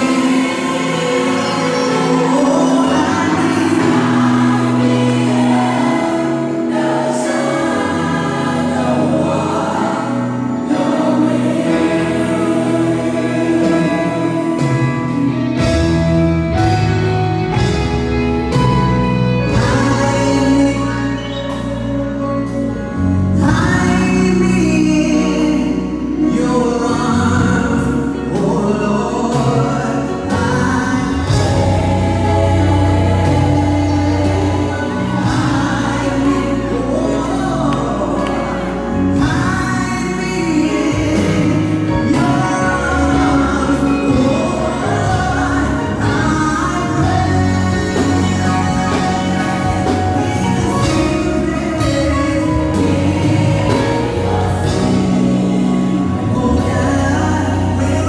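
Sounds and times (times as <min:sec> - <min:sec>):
deep bass accompaniment: 0:00.0 - 0:58.0
group singing gospel through loudspeaker: 0:00.0 - 0:58.0.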